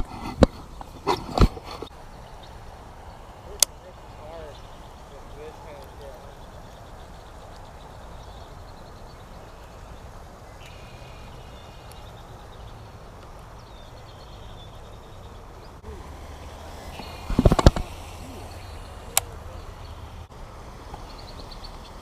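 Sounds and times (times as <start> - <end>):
faint bird calls: 0.0 - 20.3
low outdoor rumble: 0.6 - 22.0.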